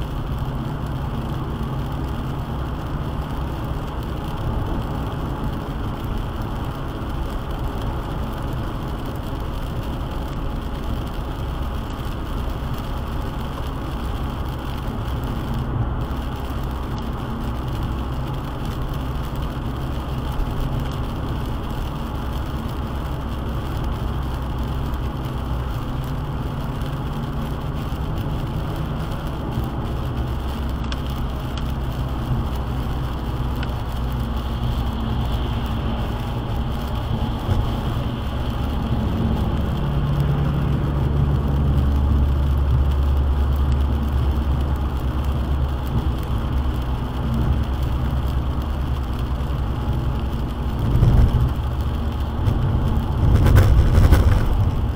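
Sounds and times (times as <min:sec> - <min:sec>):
low road rumble: 0:00.0 - 0:54.9
rain on windscreen: 0:00.0 - 0:54.9
tyres hissing on wet road: 0:00.0 - 0:54.9.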